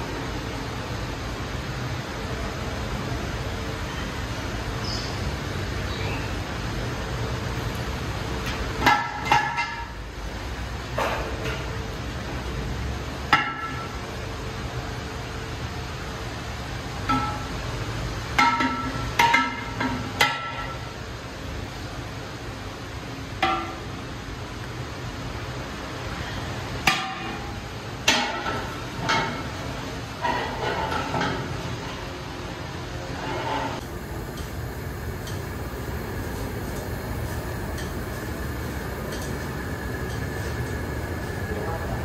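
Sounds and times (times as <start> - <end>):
gas burners rumbling: 0.0 - 42.0.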